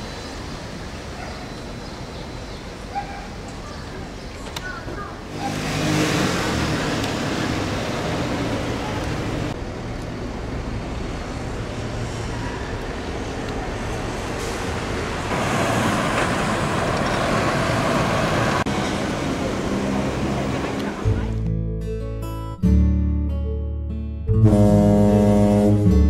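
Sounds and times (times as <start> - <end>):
road traffic rushing: 0.0 - 21.4.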